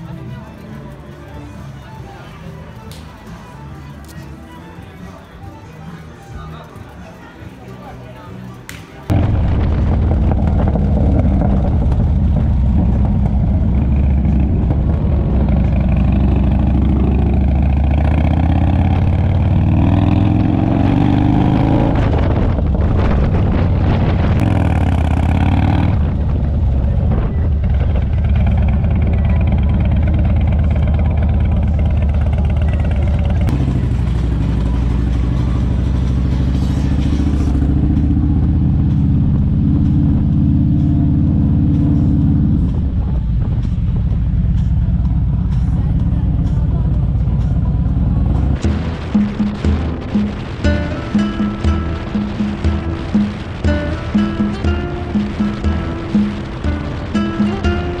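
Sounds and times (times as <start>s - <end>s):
motorcycle engine accelerating: 9.1s - 58.0s.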